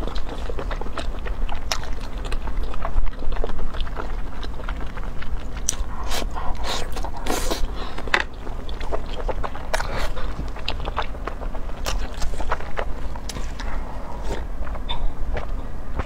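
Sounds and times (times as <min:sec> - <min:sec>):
wet chewing clicks and smacks: 0:00.0 - 0:16.0.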